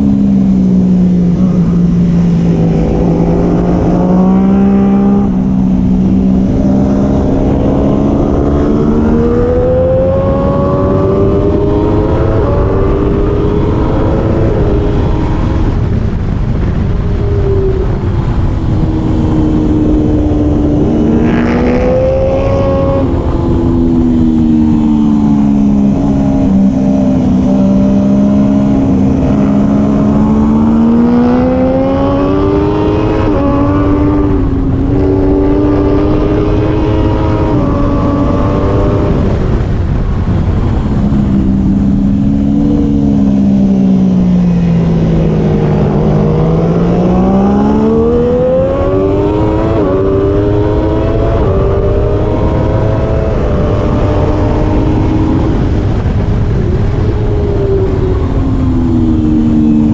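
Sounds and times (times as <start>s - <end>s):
motorcycle engine revving: 0.0s - 59.9s
wind rushing: 0.0s - 59.9s.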